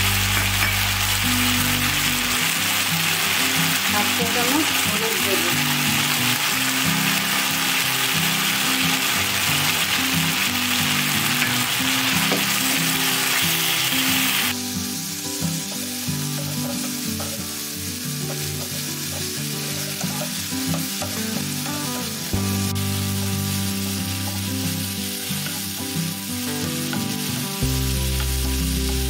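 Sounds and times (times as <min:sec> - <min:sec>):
paste sizzling in oil: 0:00.0 - 0:29.0.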